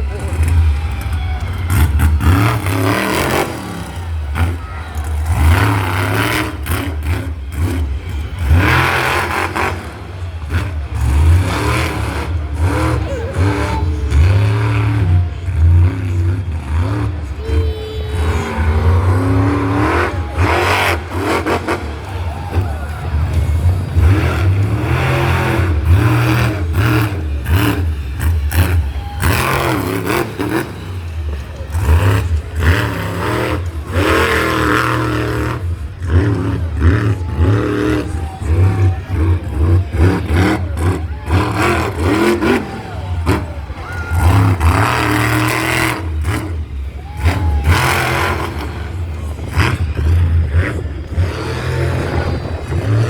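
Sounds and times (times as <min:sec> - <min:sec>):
monster truck engines revving: 0:00.0 - 0:53.0.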